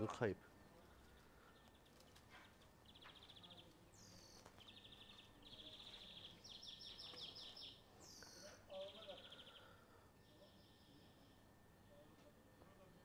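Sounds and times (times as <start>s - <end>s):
small bird singing trills: 0.6s - 11.5s.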